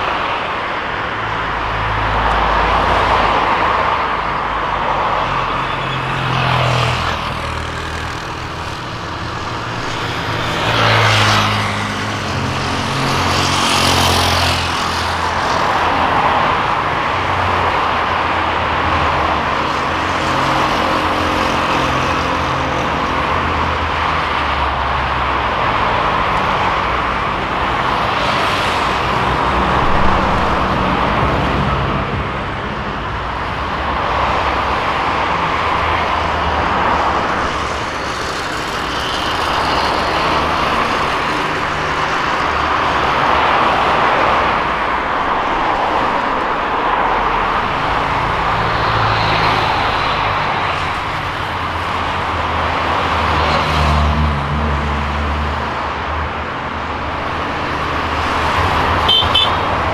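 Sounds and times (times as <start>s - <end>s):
traffic drone: 0.0s - 59.9s
vehicles passing by: 0.0s - 59.9s.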